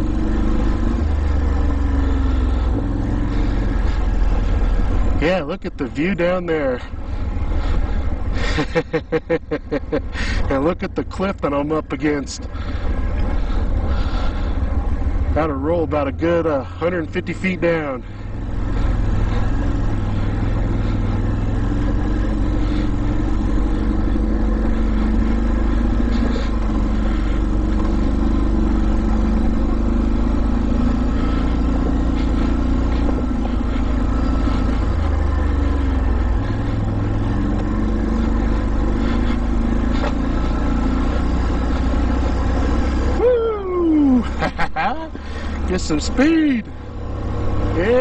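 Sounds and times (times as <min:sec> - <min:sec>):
atv engine running: 0:00.0 - 0:48.0.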